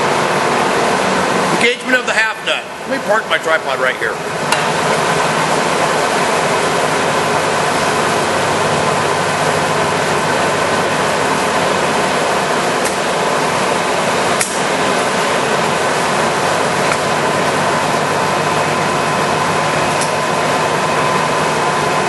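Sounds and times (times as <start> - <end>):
lathe running: 0.0 - 22.0.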